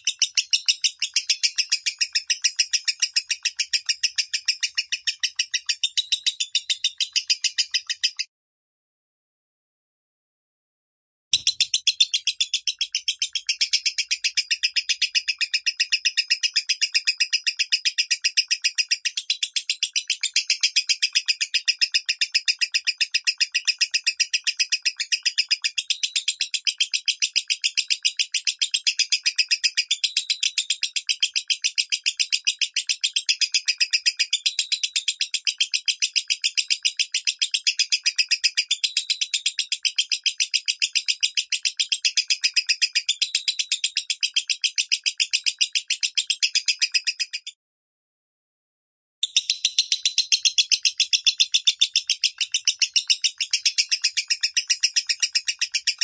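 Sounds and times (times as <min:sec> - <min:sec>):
lovebird chirping rapidly: 0:00.0 - 0:08.2, 0:11.4 - 0:47.5, 0:49.2 - 0:56.0.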